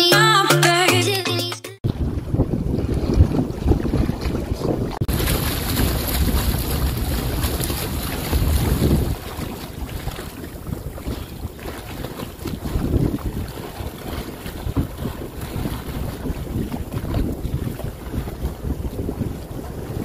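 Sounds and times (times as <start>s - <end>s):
wind buffeting microphone: 1.8s - 20.0s
wash of open water: 1.9s - 20.0s.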